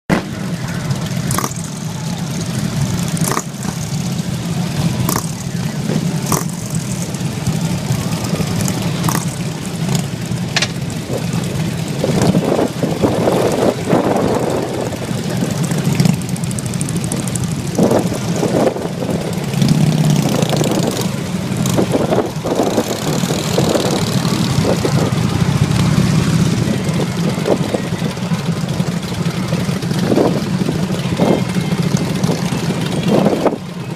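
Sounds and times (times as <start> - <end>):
motorcycle engines rumbling: 0.1 - 33.9.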